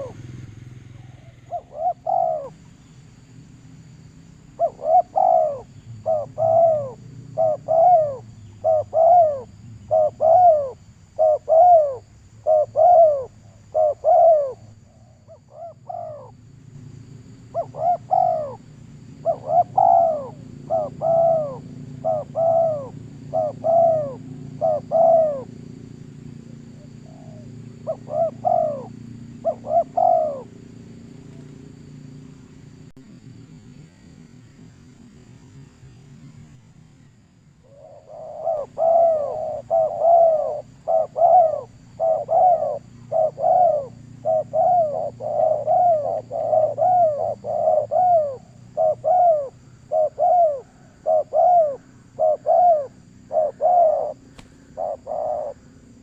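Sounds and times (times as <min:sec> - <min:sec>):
bird calling: 0:00.0 - 0:03.2, 0:04.3 - 0:32.6, 0:35.9 - 0:56.0.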